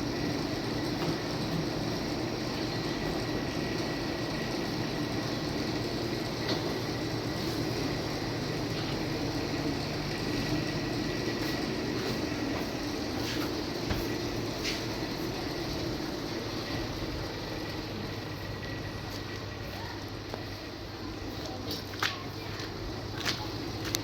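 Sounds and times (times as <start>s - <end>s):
mechanical running noise: 0.0s - 24.0s.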